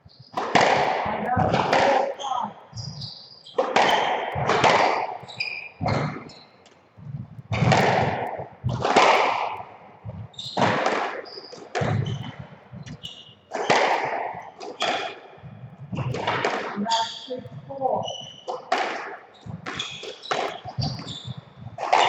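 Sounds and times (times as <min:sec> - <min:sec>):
shoes squeaking on wooden floor: 0:00.0 - 0:22.0
squash ball hitting rackets and walls: 0:00.3 - 0:06.8, 0:07.4 - 0:22.0.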